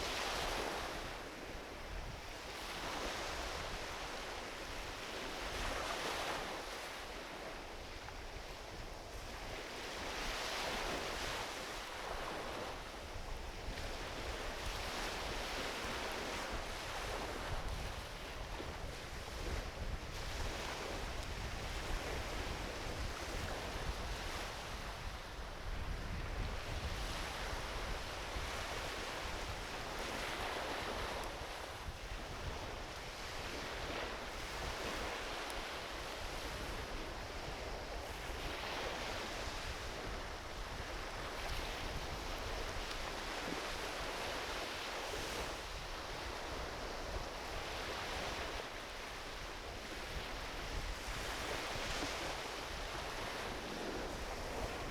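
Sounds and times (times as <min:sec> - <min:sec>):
small waves washing onto beach: 0:00.0 - 0:54.9
wind rumbling on microphone: 0:00.0 - 0:54.9.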